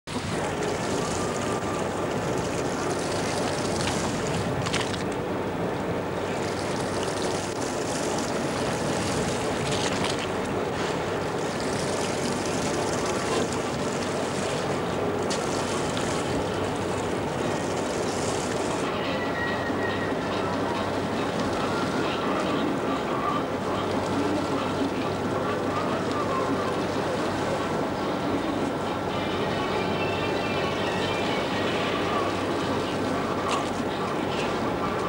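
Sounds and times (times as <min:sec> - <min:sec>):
wind: 0:00.0 - 0:35.0
boat engine running: 0:00.1 - 0:35.0
choppy waves: 0:00.1 - 0:35.0.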